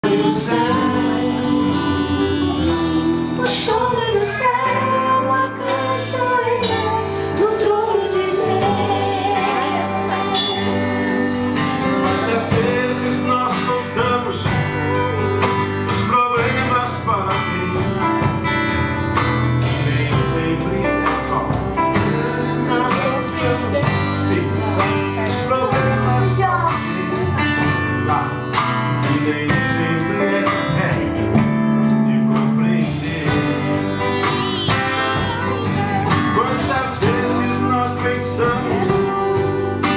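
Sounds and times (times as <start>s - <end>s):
guitar song: 0.0s - 39.9s.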